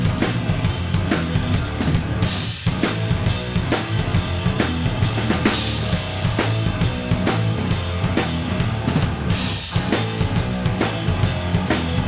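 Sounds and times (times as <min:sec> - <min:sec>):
drum kit kick and snare: 0:00.0 - 0:12.0
live rock band playing: 0:00.0 - 0:12.0.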